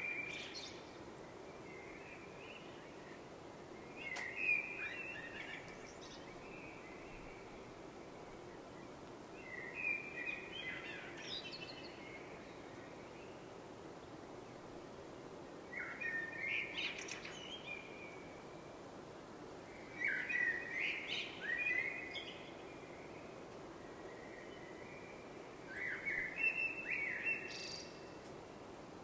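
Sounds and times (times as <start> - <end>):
bird chirping song: 0.0 - 14.0, 15.7 - 18.8, 19.6 - 28.7
steady background hiss: 0.0 - 29.0.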